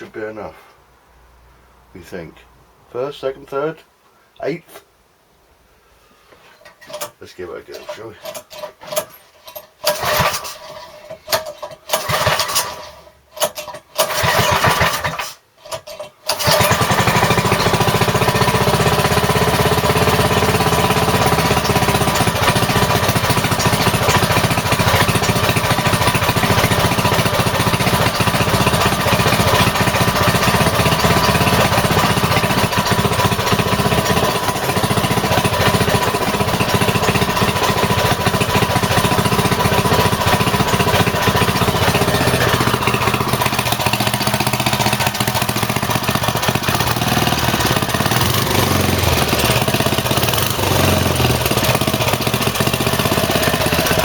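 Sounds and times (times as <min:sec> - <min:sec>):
small engine cranking and running: 0:06.6 - 0:54.0.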